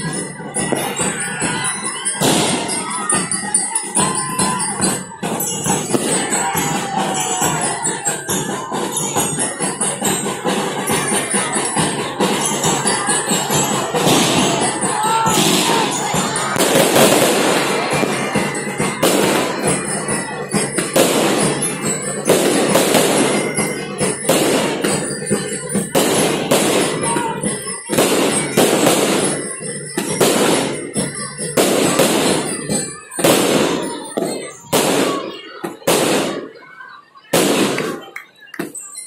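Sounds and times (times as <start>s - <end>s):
fireworks bangs echoing: 0.0s - 36.6s, 37.3s - 38.8s.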